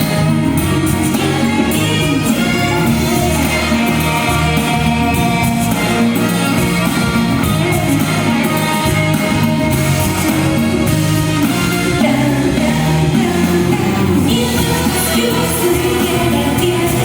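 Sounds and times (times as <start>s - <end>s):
pop song playing loudly: 0.0s - 17.0s.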